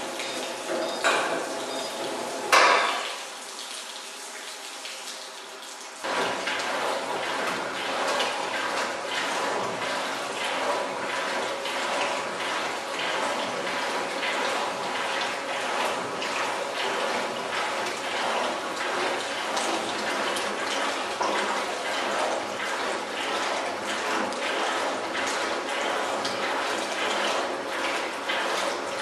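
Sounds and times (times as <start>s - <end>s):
tap water running onto potatoes: 0.0s - 29.0s.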